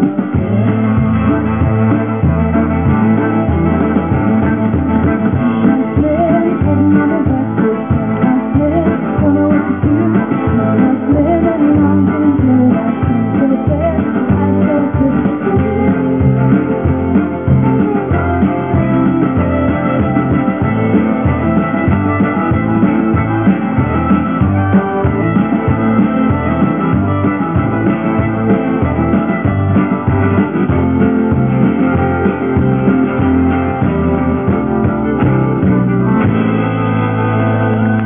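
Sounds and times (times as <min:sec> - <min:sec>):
acoustic guitar: 0:00.0 - 0:38.0
drum kit steady beat: 0:00.0 - 0:38.0
electric guitar: 0:00.0 - 0:38.0
fiddle: 0:00.0 - 0:38.0.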